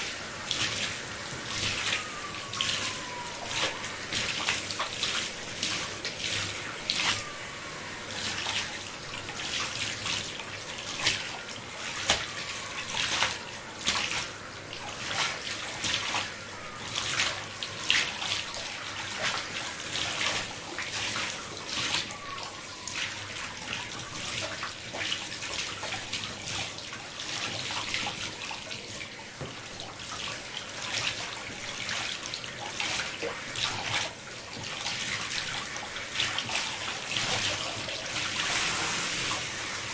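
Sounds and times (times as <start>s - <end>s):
water running from tap into sink: 0.0s - 39.9s
water splashing: 0.0s - 39.9s.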